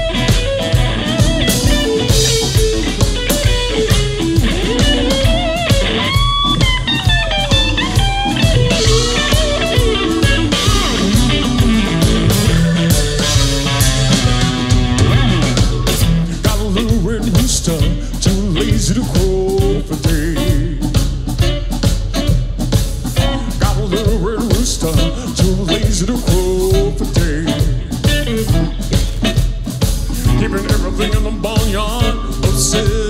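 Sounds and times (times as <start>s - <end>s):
bass line: 0.0s - 33.0s
drums: 0.0s - 33.0s
electric guitar lead: 0.0s - 33.0s.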